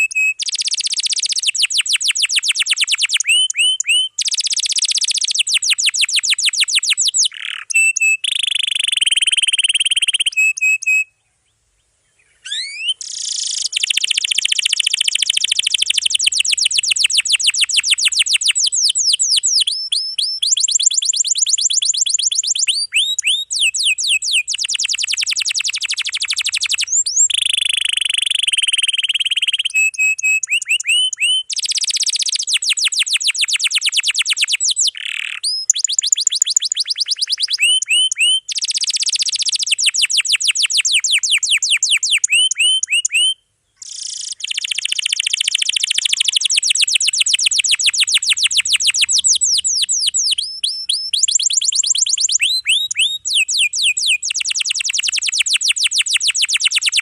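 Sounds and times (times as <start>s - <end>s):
canary singing: 0.0s - 11.2s, 12.2s - 57.0s.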